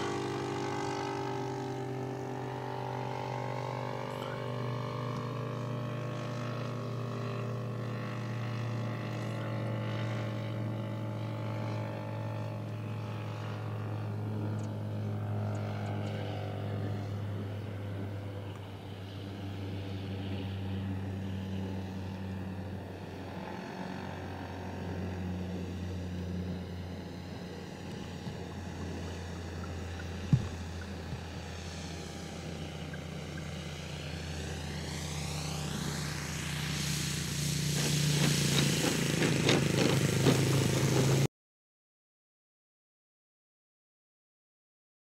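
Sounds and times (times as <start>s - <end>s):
model airplane engine droning: 0.0s - 41.3s.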